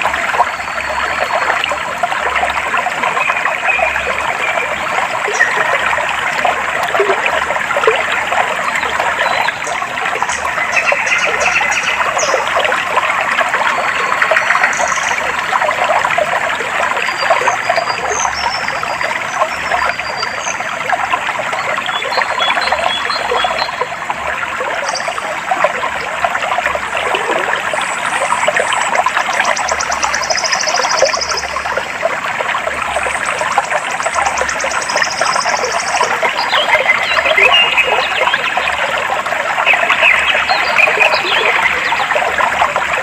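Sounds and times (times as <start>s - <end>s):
stream trickling over stones: 0.0s - 43.0s.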